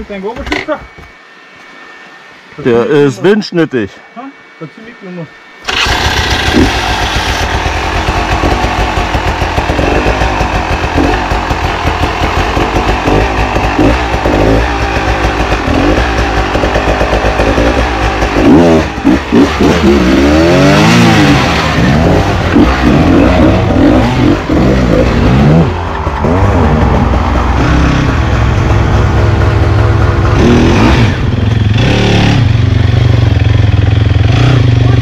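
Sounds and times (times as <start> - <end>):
dirt bike engine revving: 5.6 - 35.0.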